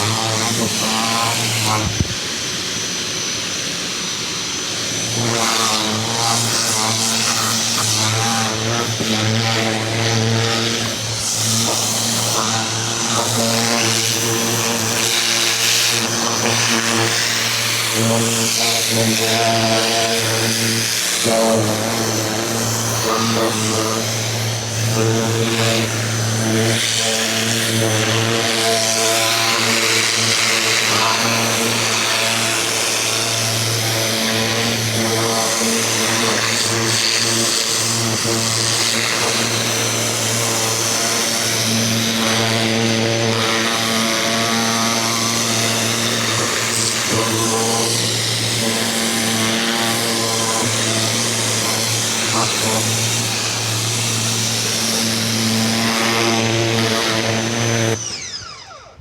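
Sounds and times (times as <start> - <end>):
pressure washer motor humming: 0.0 - 59.0.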